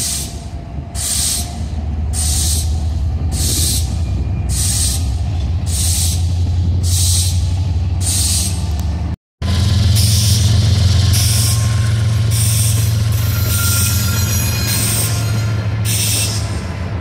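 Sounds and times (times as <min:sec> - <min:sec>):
locomotive engine rumble: 0:00.0 - 0:17.0.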